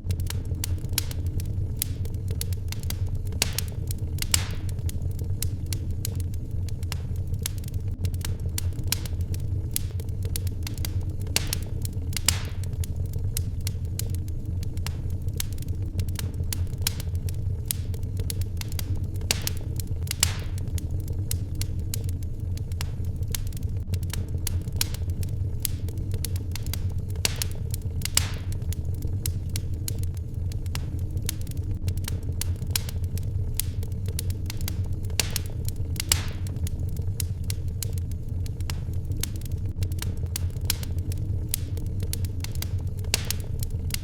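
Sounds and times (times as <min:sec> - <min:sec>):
fire hissing: 0:00.0 - 0:44.0
steady low rumble: 0:00.0 - 0:44.0
wood fire crackling: 0:00.0 - 0:44.0.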